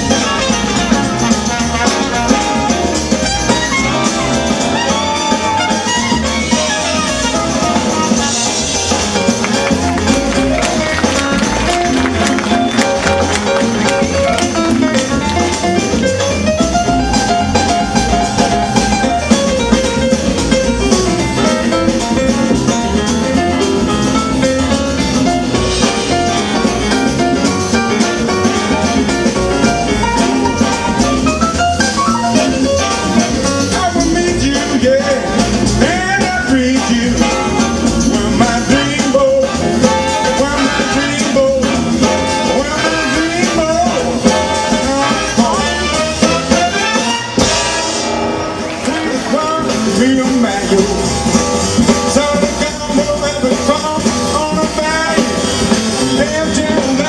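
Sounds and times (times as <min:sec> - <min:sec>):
big band playing jazz: 0:00.0 - 0:57.0.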